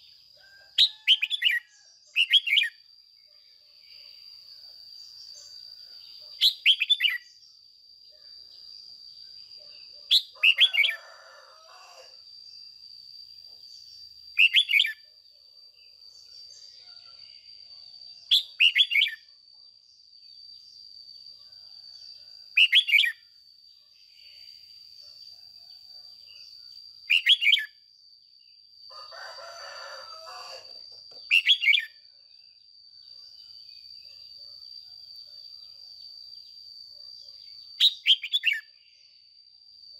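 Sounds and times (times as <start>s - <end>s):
bird chirping song: 0.0s - 11.2s, 11.8s - 19.4s, 20.0s - 28.8s, 29.5s - 39.4s.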